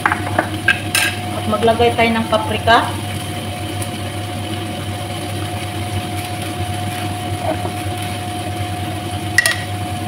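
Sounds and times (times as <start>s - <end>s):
motor-like hum: 0.0s - 10.0s.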